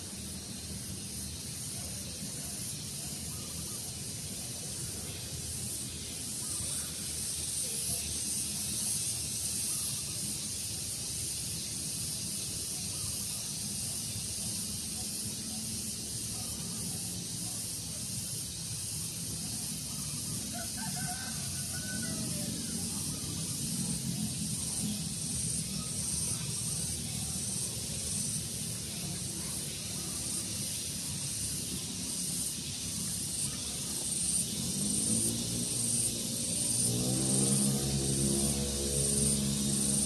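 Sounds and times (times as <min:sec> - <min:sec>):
high-pitched hiss: 0:00.0 - 0:40.0.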